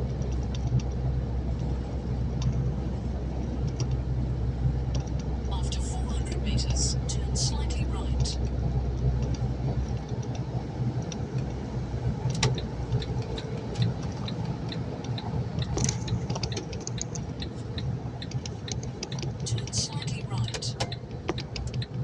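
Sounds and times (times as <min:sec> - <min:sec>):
truck engine and road drone: 0:00.0 - 0:22.0.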